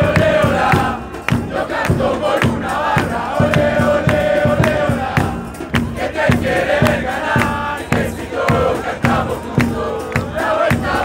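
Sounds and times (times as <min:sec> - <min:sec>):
bass drums beating: 0:00.0 - 0:11.0
crowd chanting in unison: 0:00.0 - 0:11.0.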